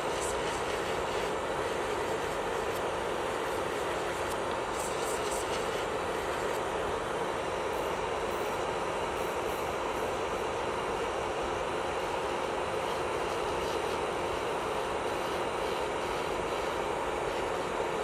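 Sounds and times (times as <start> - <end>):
electric nail drill running: 0.0 - 18.0.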